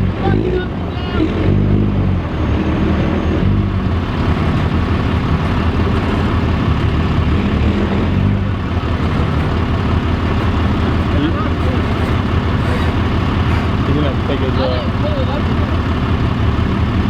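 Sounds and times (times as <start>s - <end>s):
truck diesel engine idling: 0.0s - 17.0s.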